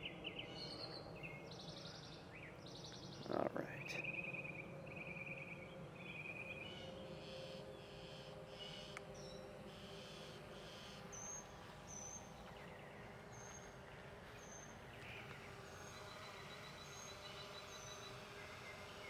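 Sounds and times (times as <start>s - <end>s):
bird chirping: 0.0s - 19.0s
low hum: 0.0s - 19.0s.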